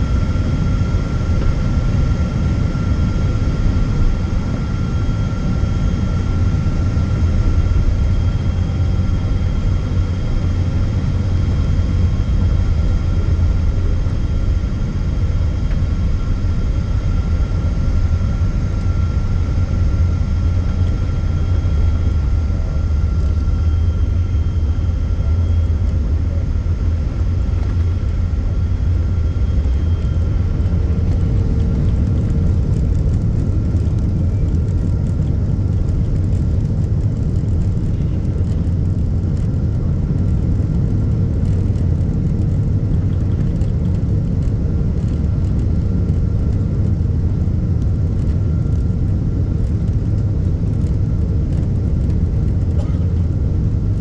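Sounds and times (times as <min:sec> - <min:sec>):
faint steady whine: 0:00.0 - 0:54.0
low cabin rumble: 0:00.0 - 0:54.0.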